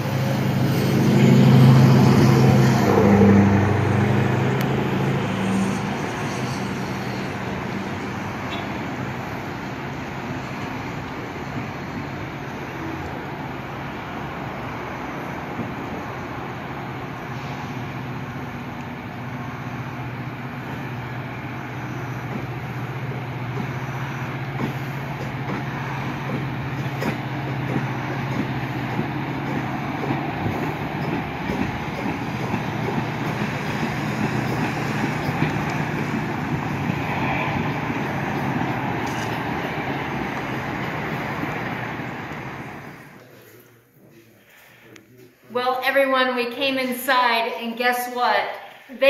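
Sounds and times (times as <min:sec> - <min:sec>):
train wheels on rails: 0:00.0 - 0:43.6
diesel engine drone: 0:00.0 - 0:43.9.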